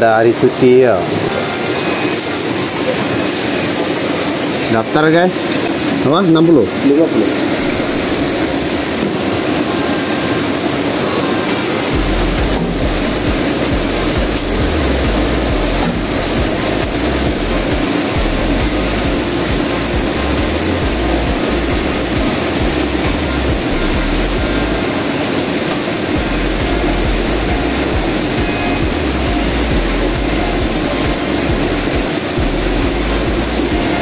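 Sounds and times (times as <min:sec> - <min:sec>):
machine hum and hiss: 0:00.0 - 0:34.0.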